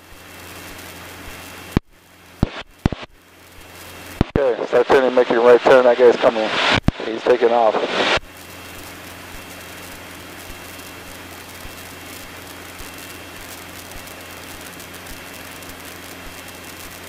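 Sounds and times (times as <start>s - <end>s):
airplane engine hum in cockpit: 0.0s - 17.0s.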